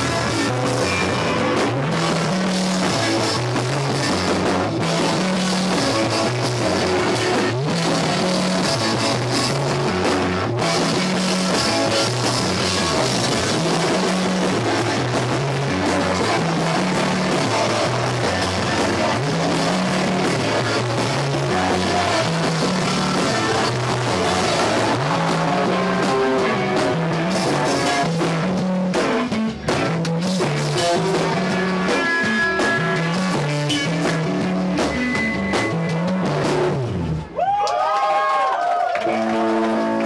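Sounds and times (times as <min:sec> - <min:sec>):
rock band playing live: 0:00.0 - 0:37.4, 0:39.0 - 0:40.0.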